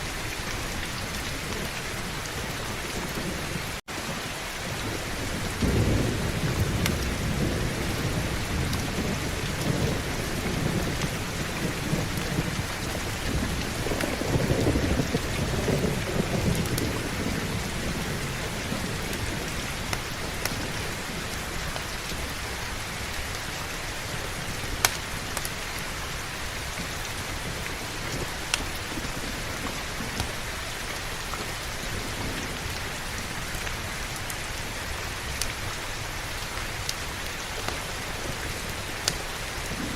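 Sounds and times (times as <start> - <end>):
thunder rumbling: 0.0 - 36.1, 36.7 - 39.9
heavy rain: 0.0 - 39.9.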